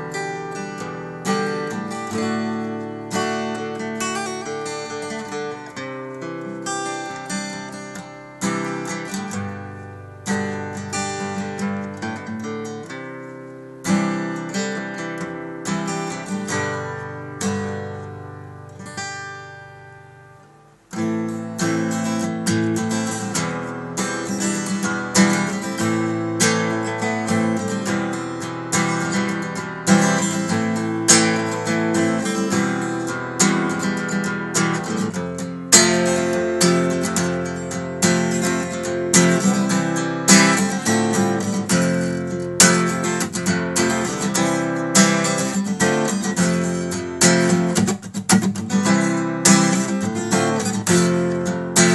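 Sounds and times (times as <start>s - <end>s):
acoustic guitar strumming and picking: 0.0s - 51.9s.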